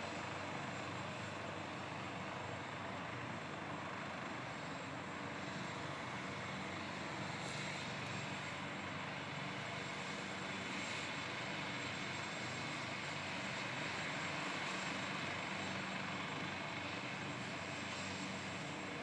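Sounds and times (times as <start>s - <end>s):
helicopter turbine and rotor roar: 0.0s - 19.0s
high helicopter whine: 0.0s - 19.0s.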